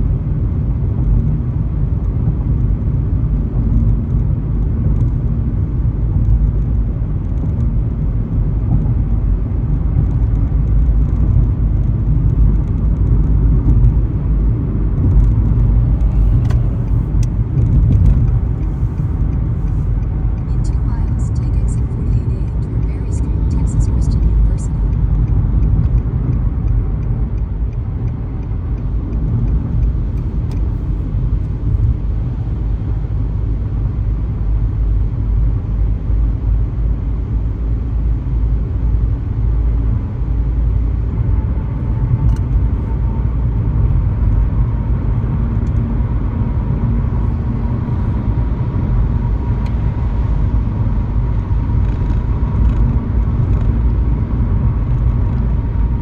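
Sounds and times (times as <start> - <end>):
road and engine rumble: 0.0 - 56.0.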